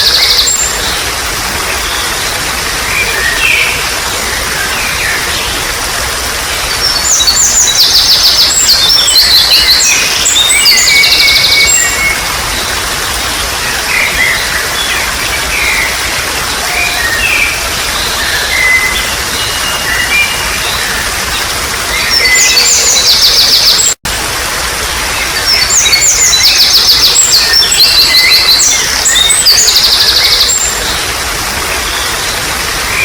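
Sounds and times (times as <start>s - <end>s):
songbirds singing: 0.0s - 24.0s, 25.1s - 33.0s
trickle of running water: 0.0s - 33.0s.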